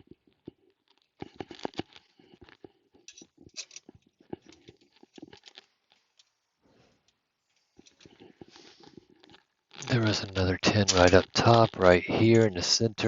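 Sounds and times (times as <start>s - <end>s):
small metal parts clicking and rattling: 1.0s - 6.4s, 7.1s - 12.5s.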